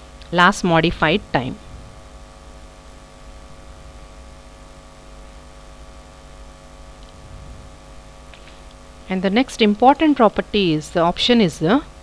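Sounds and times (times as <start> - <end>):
electrical mains hum: 0.0 - 12.0
faint buzz: 0.0 - 12.0.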